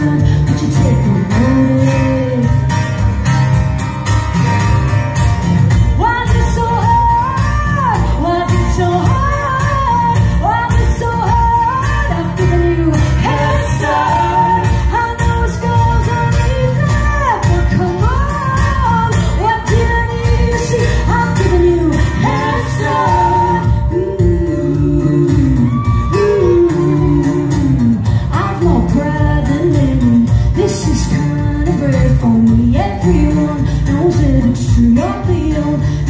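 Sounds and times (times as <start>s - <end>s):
woman singing: 0.0s - 3.1s, 5.7s - 36.0s
acoustic guitar strumming: 0.0s - 35.7s
electric guitars: 0.0s - 36.0s.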